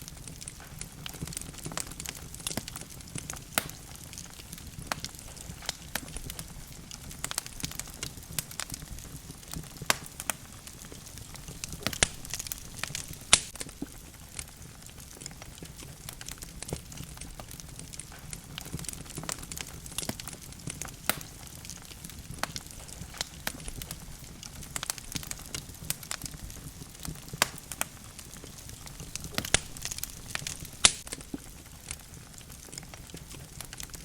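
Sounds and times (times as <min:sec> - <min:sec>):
fire flames rumbling: 0:00.0 - 0:34.0
logs crackling and snapping: 0:00.0 - 0:34.0.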